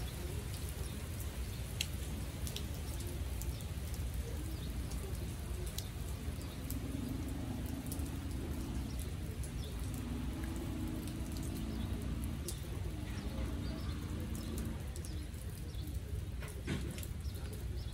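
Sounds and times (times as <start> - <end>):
rain pattering on water: 0.0 - 17.9
water drips: 0.0 - 17.9.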